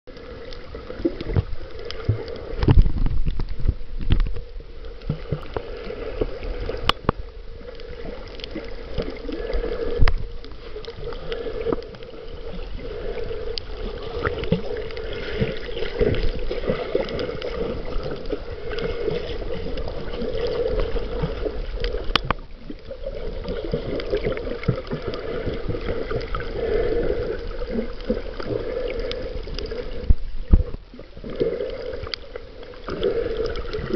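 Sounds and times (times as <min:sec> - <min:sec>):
underwater gurgling wash: 0:00.1 - 0:33.9.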